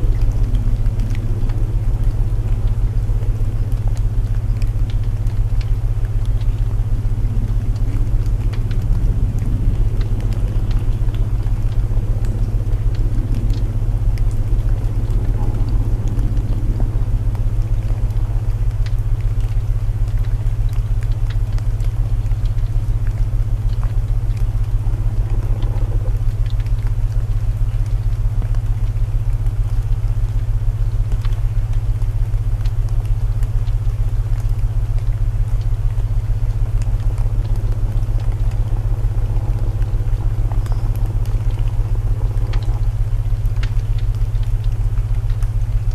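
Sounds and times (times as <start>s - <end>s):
burning wood crackling: 0.0s - 45.9s
low binaural drone: 0.0s - 45.9s
rain hiss: 0.0s - 45.9s.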